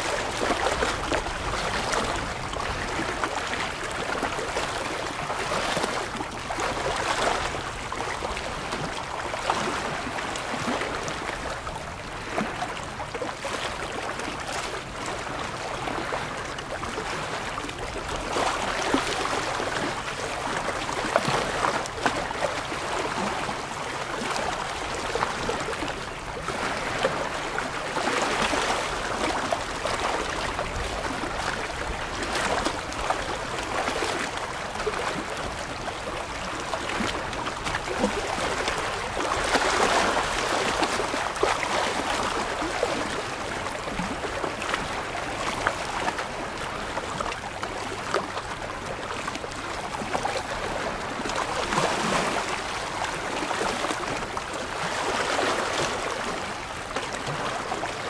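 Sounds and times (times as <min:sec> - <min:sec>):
small waves lapping on rocks: 0:00.0 - 0:58.0.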